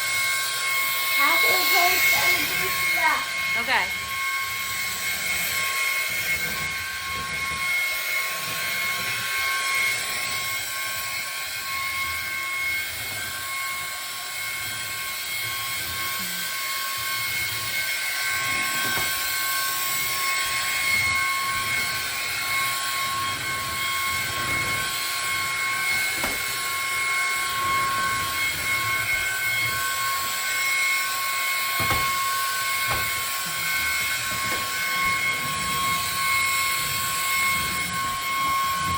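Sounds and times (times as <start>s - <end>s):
stick vacuum running: 0.0s - 38.9s.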